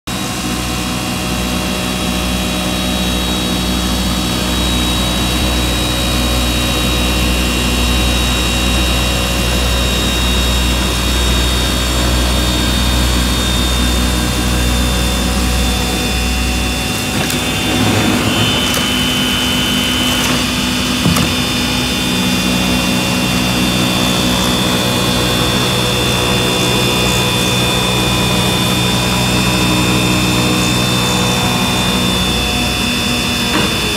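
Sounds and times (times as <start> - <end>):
cutting machine drone with whine: 0.1 - 33.9.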